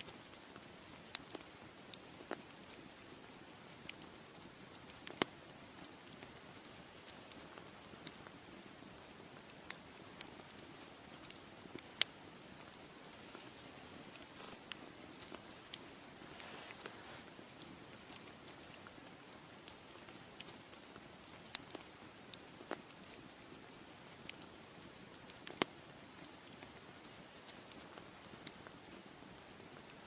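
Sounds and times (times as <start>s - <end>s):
bonfire crackling and popping: 0.0s - 30.0s
soft steady hiss: 0.0s - 30.0s.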